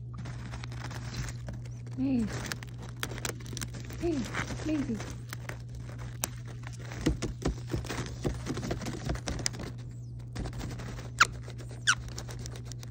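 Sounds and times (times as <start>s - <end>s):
foil bag rustling: 0.0s - 12.9s
parrot crunching chips: 0.0s - 12.9s.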